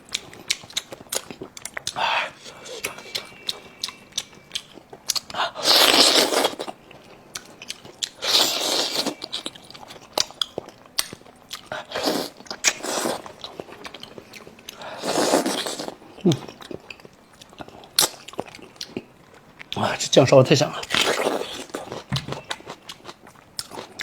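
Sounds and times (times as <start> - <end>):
person chewing wetly: 0.0 - 20.0, 20.7 - 24.0.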